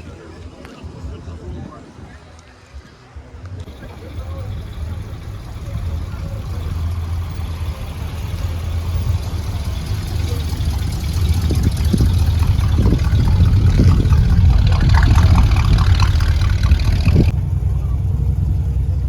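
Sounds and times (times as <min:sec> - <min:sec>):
car engine idling: 0:03.6 - 0:19.0.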